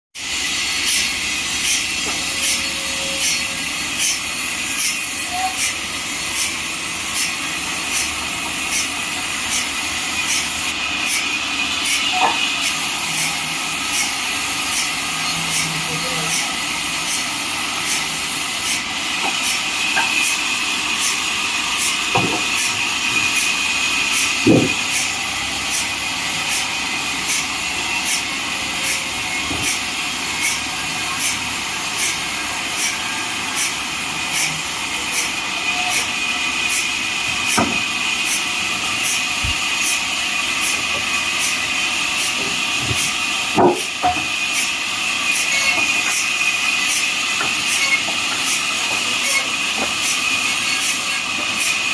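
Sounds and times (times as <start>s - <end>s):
bandsaw blade cutting log: 0.2s - 51.9s.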